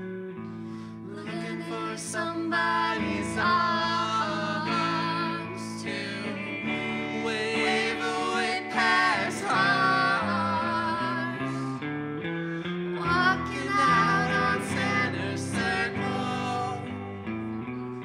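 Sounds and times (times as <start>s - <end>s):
electric guitar: 0.0s - 18.0s
woman singing: 1.0s - 11.8s, 12.9s - 17.2s
man singing along: 1.2s - 11.8s, 13.0s - 17.2s.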